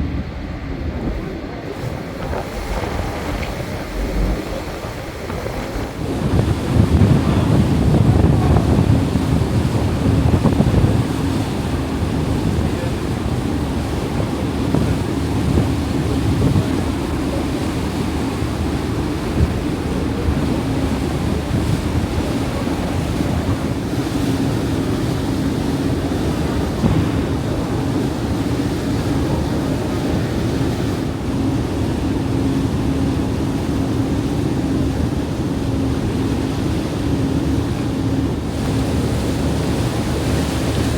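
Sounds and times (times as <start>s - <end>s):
low ferry engine drone: 0.0s - 40.9s
rushing sea water: 0.0s - 40.9s
wind buffeting microphone: 0.0s - 40.9s.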